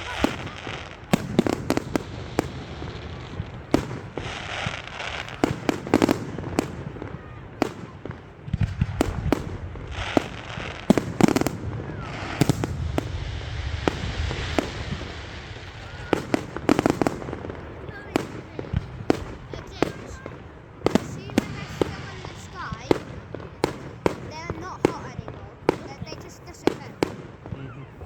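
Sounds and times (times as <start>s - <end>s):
firework bursts and bangs: 0.0s - 28.0s
firework crackling: 0.0s - 28.0s.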